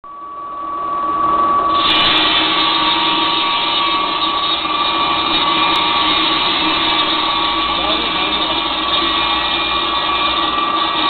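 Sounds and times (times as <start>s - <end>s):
concrete saw high whine: 0.1s - 11.0s.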